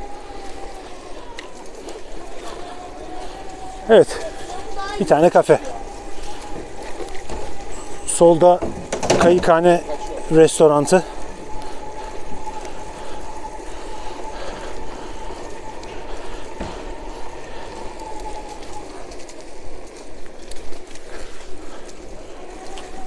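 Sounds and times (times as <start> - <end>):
electric bike motor whining: 0.0 - 23.0
road and wind noise: 0.0 - 23.0.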